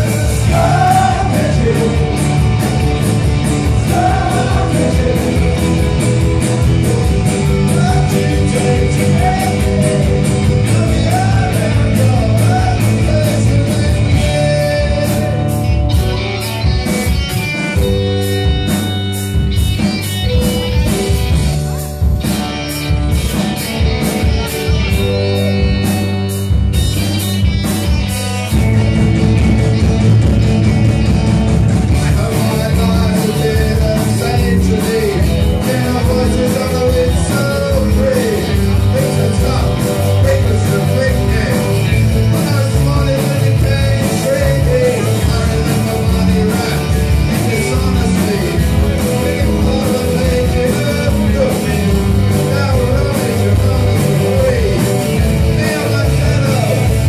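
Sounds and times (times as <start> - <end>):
bass guitar: 0.0 - 57.0
drums: 0.0 - 57.0
electric guitars: 0.0 - 57.0
electric keyboard: 0.0 - 57.0.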